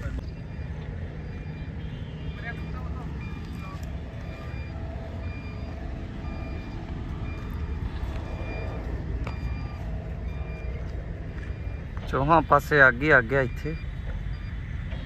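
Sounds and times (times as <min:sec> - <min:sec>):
machinery low rumble: 0:00.0 - 0:15.0
reversing alarm beeps: 0:00.0 - 0:15.0.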